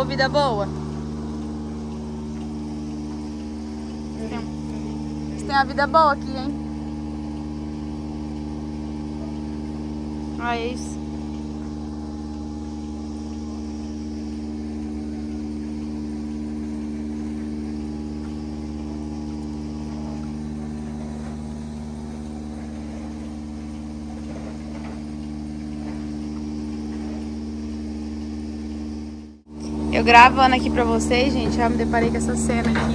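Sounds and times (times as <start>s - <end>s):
milking machine pump humming: 0.0s - 32.9s.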